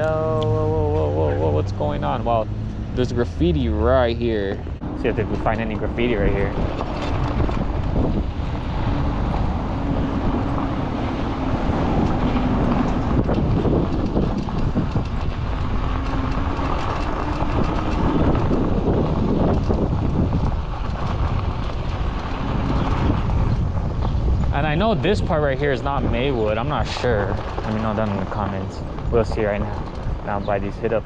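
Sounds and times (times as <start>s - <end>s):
bicycle rolling over gravel: 3.8s - 31.0s.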